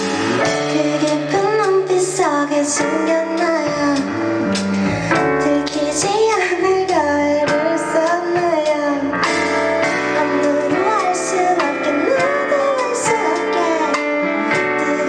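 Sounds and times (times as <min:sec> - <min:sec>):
woman singing a slow ballad: 0:00.4 - 0:04.2, 0:05.2 - 0:15.0.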